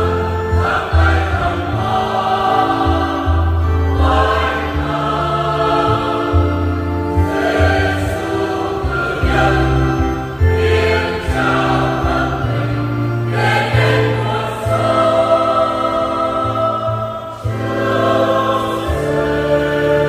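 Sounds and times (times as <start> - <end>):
choir singing a hymn: 0.0 - 20.0
electronic organ bass notes: 0.0 - 20.0.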